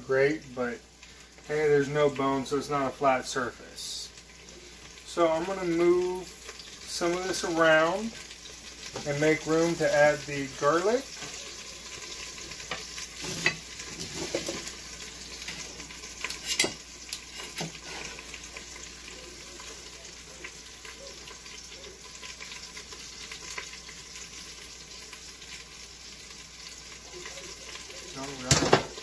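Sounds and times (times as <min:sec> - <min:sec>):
chicken sizzling in oil: 0:00.0 - 0:29.0.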